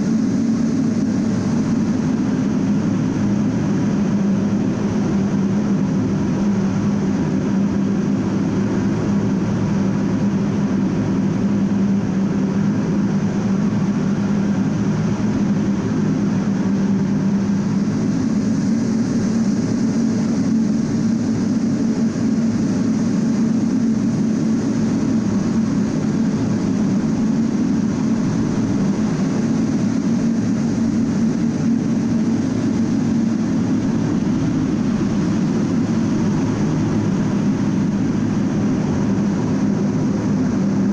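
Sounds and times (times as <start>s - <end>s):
air rushing over canopy: 0.0s - 40.9s
jet engines droning: 0.0s - 40.9s.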